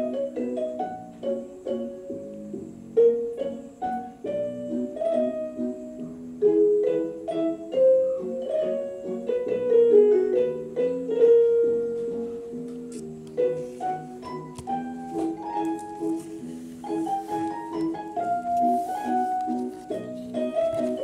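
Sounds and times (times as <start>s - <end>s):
light melody of short notes: 0.0s - 21.0s.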